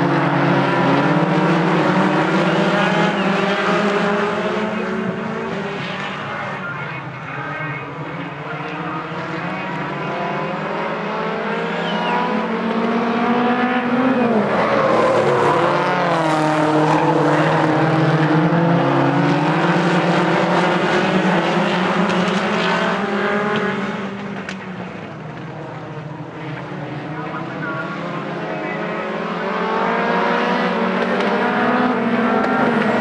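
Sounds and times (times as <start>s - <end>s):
stock car engines revving: 0.0s - 33.0s.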